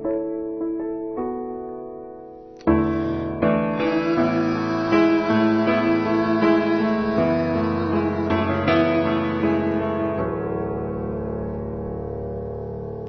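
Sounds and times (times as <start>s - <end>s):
pop song led by piano: 0.0s - 11.9s.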